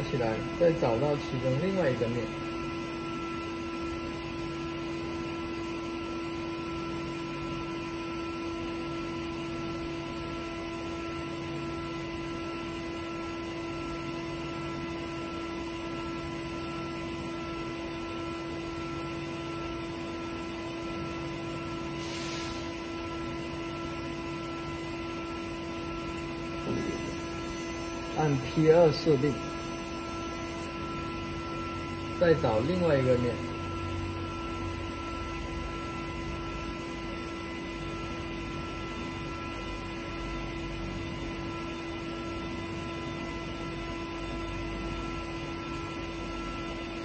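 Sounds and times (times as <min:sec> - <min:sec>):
milling machine spindle humming: 0:00.0 - 0:47.0.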